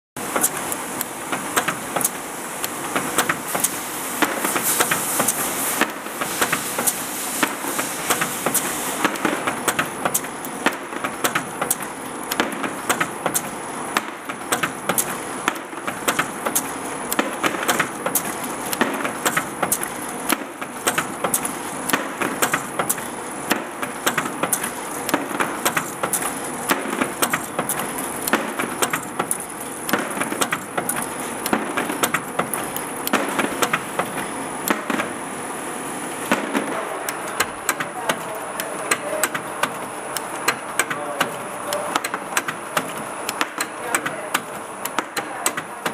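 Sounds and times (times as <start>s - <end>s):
bottles clicking on conveyor: 0.2s - 35.4s, 36.2s - 45.9s
machine running noise: 0.2s - 45.9s.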